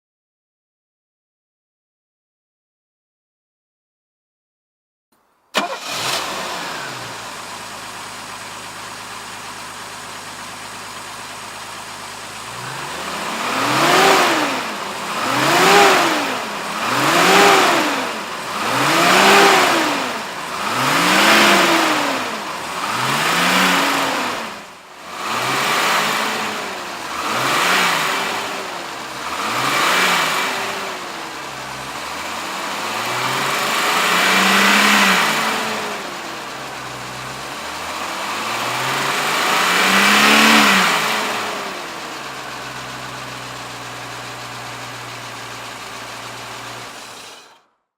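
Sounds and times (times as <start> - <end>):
car engine starting and idling: 5.5 - 47.6
engine revving: 5.6 - 47.6.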